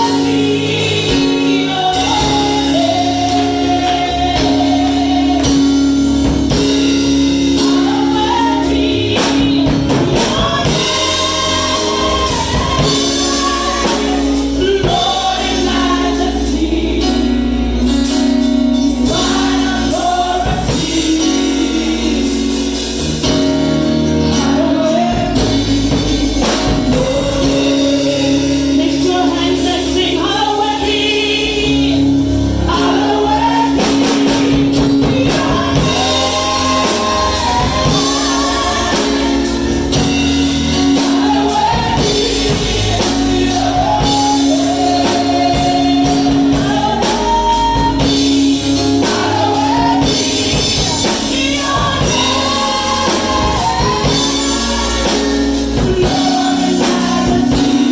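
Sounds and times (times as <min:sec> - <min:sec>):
gospel worship song: 0:00.0 - 0:57.9.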